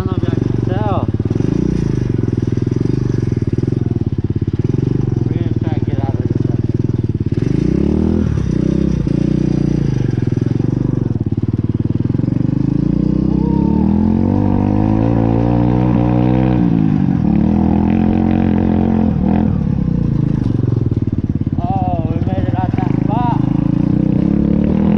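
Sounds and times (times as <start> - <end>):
small motorbike engine revving: 0.0 - 21.3.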